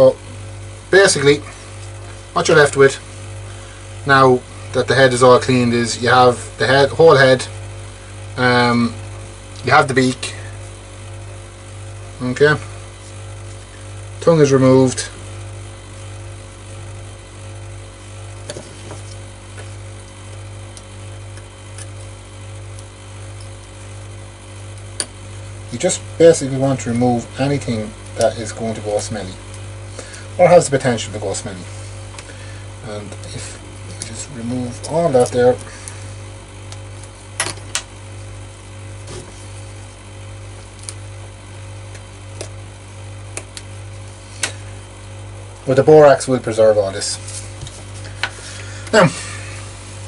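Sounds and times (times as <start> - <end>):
low wavering hum: 0.0 - 50.0.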